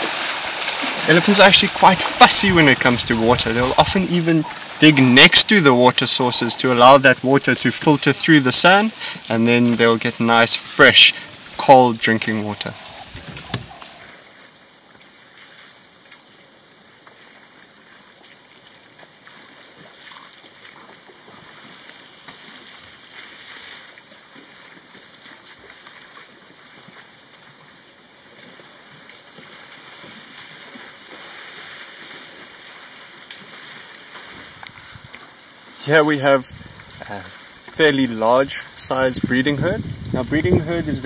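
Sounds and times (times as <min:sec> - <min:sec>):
water sloshing and splashing: 0:00.0 - 0:16.3, 0:17.1 - 0:38.8
faint steady hiss: 0:00.0 - 0:41.0.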